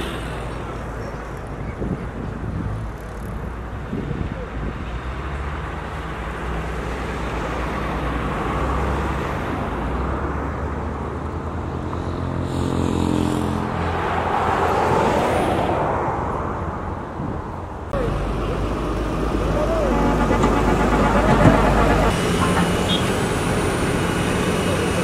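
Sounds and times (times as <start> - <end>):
cars passing close by: 2.6 - 25.0.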